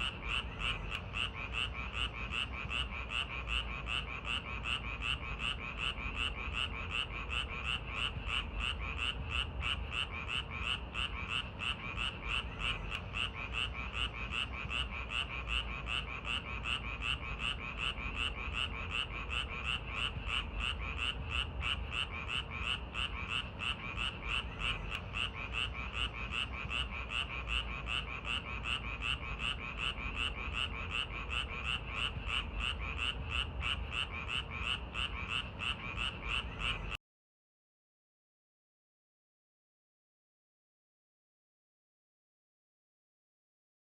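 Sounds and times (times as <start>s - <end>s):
frogs croaking in chorus: 0.0s - 37.0s
low background rumble: 0.0s - 37.0s.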